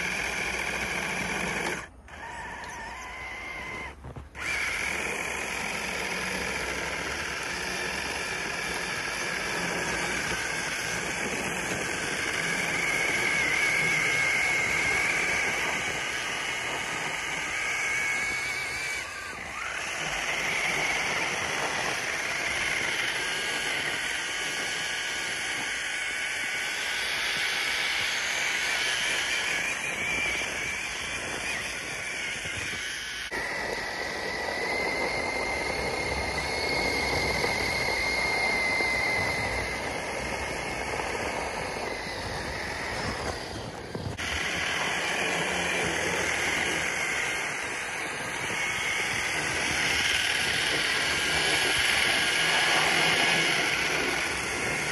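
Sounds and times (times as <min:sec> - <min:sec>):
electric motor whining: 0:00.0 - 0:54.9
tyres churning through snow: 0:00.0 - 0:54.9.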